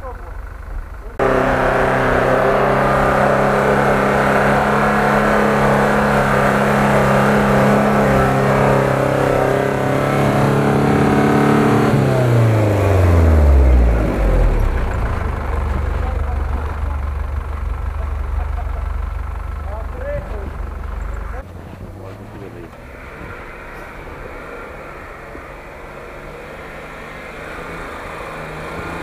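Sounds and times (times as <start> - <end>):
engine revving hard: 1.1 - 18.8, 19.6 - 29.0.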